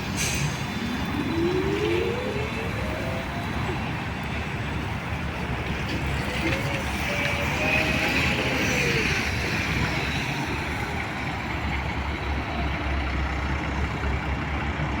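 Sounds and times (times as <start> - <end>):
bus cabin rumble and road noise: 0.0 - 15.0.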